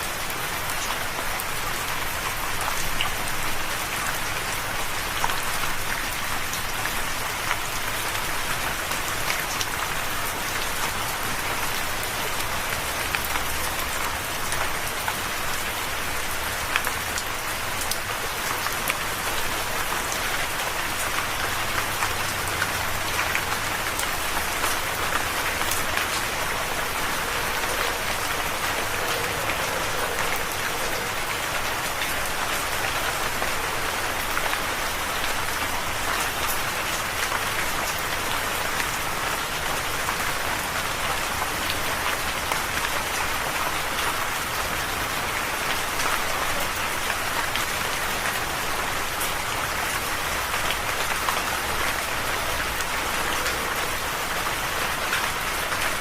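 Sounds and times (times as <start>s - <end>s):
rain falling: 0.0s - 56.0s
raindrops pattering on a surface: 0.0s - 56.0s.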